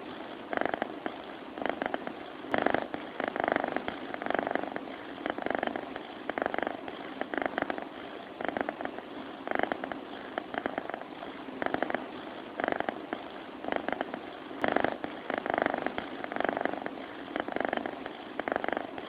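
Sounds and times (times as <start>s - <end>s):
cat snore-purring: 0.0s - 19.0s.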